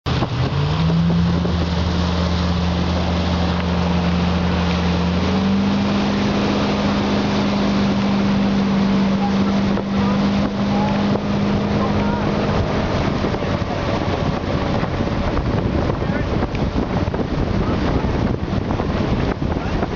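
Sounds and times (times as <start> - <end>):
churning wake rushing: 0.0 - 19.9
motorboat engine running: 0.0 - 19.9
wind on microphone: 0.0 - 19.9.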